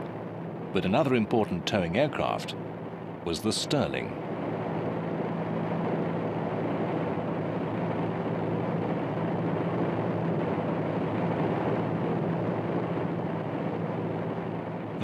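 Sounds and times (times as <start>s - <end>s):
propeller aircraft engine droning: 0.0s - 15.0s.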